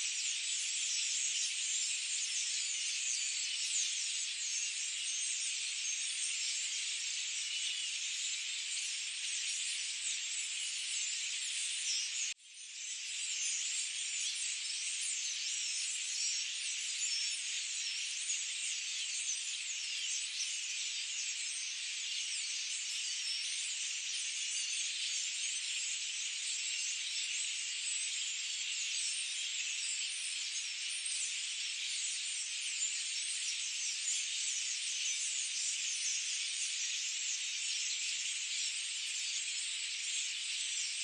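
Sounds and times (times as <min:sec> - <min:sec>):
forest birds chirping: 0:00.0 - 0:41.0.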